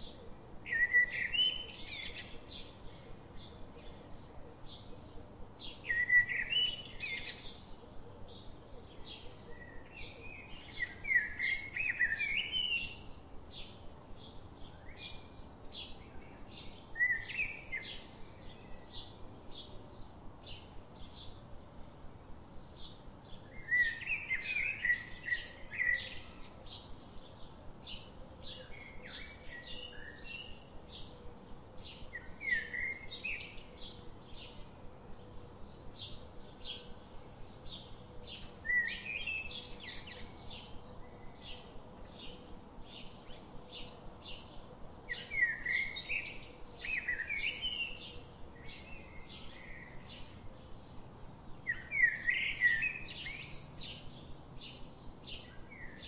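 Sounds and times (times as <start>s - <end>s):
birds warbling song: 0.0s - 56.0s.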